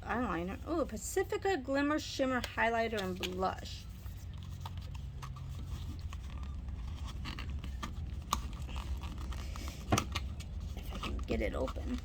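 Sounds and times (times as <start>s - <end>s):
hands handling a package: 2.4s - 12.0s.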